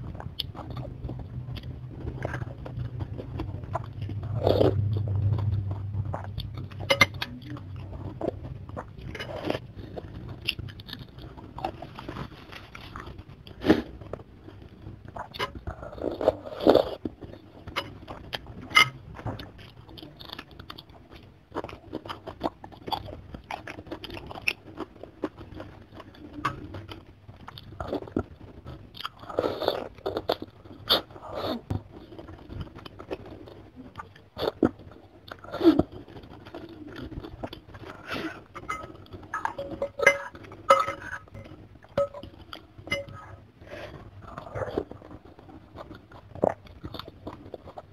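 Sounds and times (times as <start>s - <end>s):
wet chewing and crunching: 0.0s - 47.9s.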